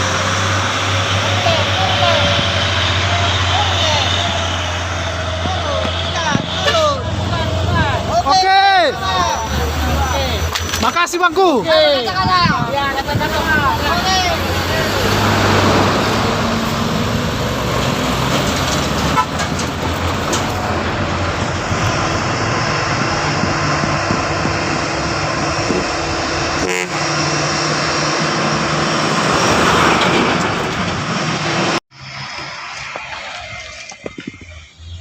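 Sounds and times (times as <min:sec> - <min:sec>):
truck diesel engine running: 0:00.0 - 0:32.7.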